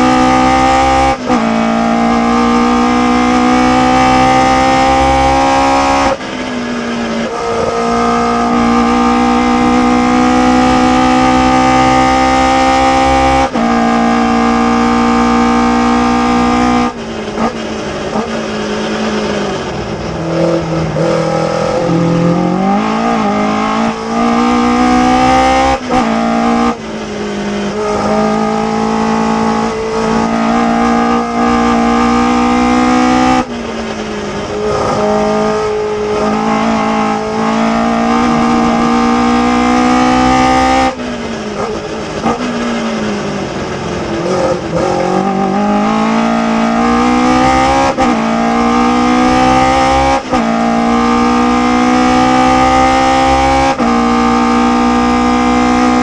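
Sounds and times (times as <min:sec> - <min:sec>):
racing car engine revving: 0:00.0 - 0:06.3, 0:07.0 - 0:56.0.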